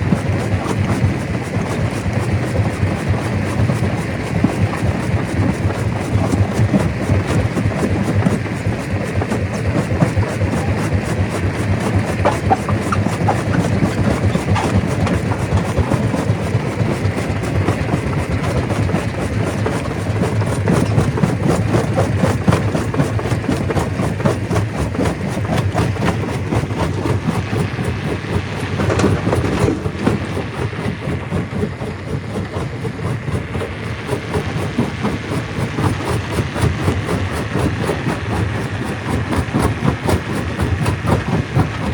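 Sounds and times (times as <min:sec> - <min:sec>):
engine drone: 0:00.0 - 0:41.9.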